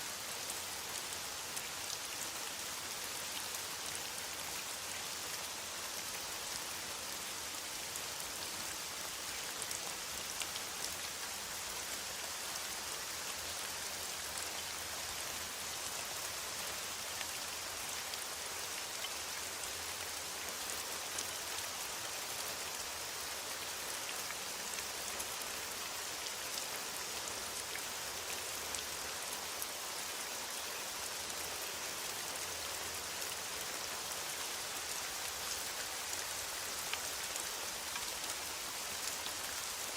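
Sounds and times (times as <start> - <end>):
soft rain pattering in forest: 0.0 - 39.9.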